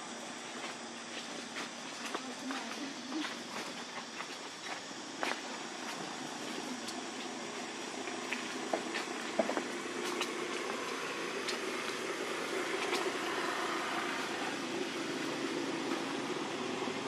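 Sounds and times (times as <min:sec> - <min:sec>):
outdoor hiss and rumble: 0:00.0 - 0:17.0.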